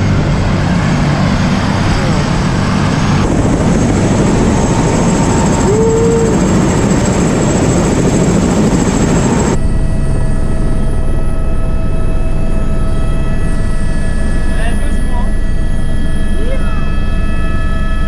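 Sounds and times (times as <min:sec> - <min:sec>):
helicopter engine and rotor: 0:00.0 - 0:18.0
steady whine tones: 0:00.0 - 0:18.0.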